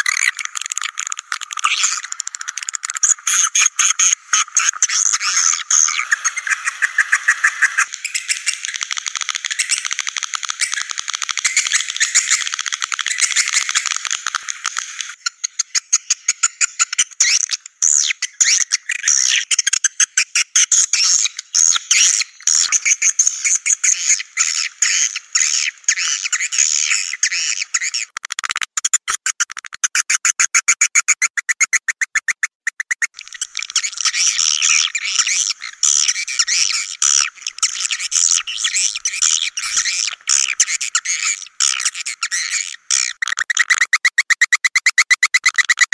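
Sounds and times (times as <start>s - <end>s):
swiftlets chirping and twittering: 0.0s - 19.5s, 21.0s - 28.1s, 32.8s - 44.2s.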